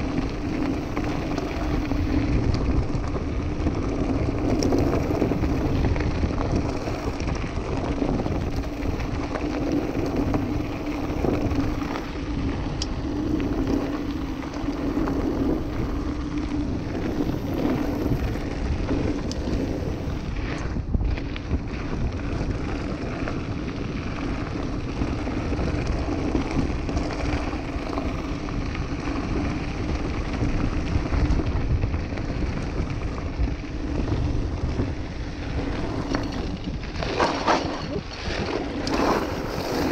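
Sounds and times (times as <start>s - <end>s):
bike tyres on loose gravel: 0.0s - 39.9s
wind on microphone: 0.0s - 39.9s.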